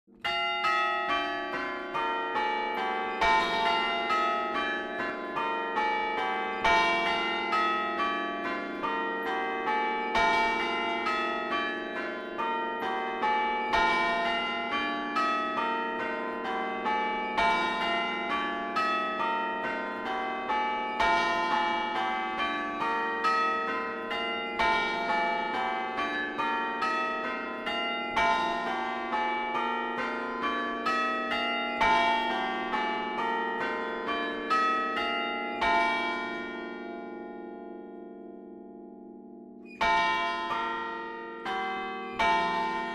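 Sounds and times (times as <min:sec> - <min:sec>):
church bells ringing: 0:00.1 - 0:42.9.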